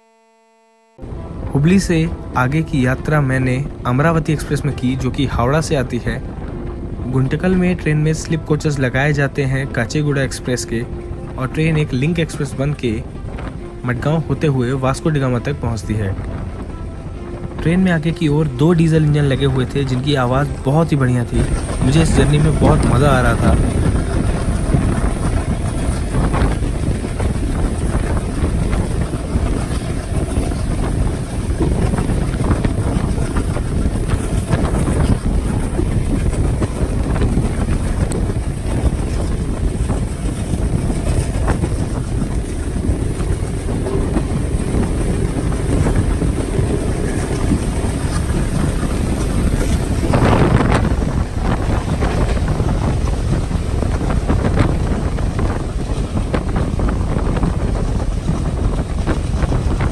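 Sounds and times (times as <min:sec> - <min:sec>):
train rumbling at speed: 0:01.0 - 0:59.9
wind buffeting microphone: 0:01.0 - 0:59.9.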